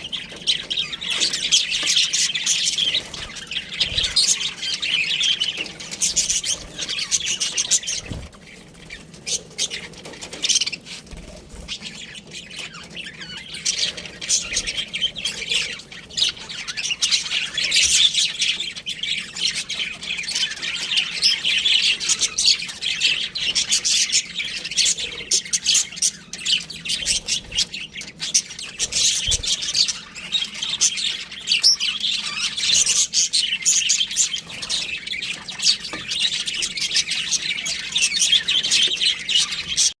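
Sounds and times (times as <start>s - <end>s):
budgerigars chirping: 0.0s - 40.0s.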